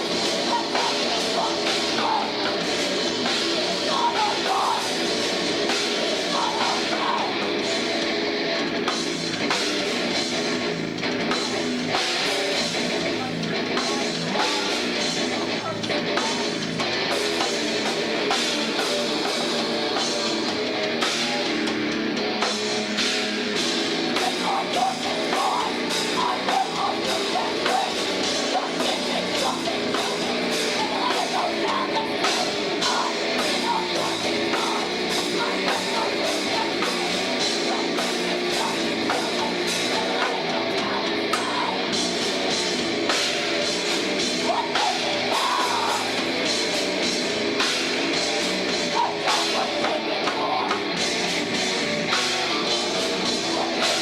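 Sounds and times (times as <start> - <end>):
person singing: 0.0 - 8.6, 9.4 - 54.0
bass guitar: 0.0 - 54.0
distorted electric guitars: 0.0 - 54.0
drum kit: 0.0 - 54.0.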